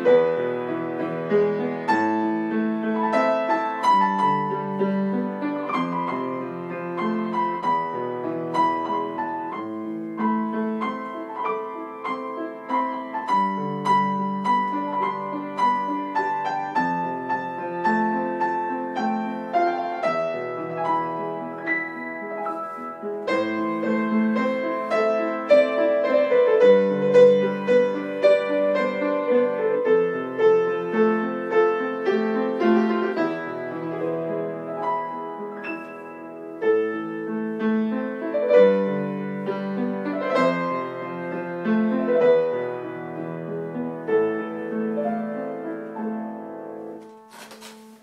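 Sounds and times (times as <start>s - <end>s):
solo grand piano: 0.0s - 48.0s.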